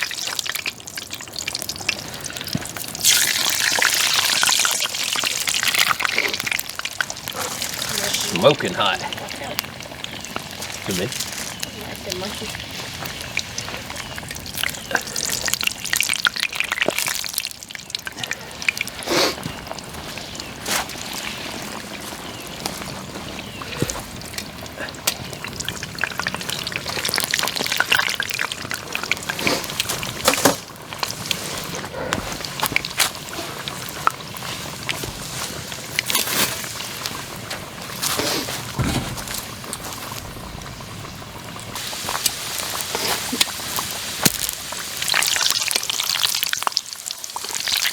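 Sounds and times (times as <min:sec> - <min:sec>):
oil sizzling: 0:00.0 - 0:47.9
pops and crackles: 0:00.0 - 0:47.9.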